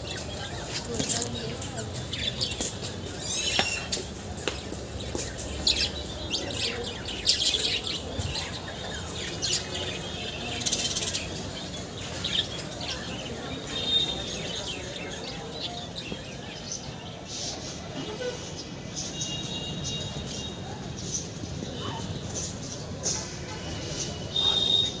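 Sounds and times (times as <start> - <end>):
caged birds chirping: 0.0 - 25.0.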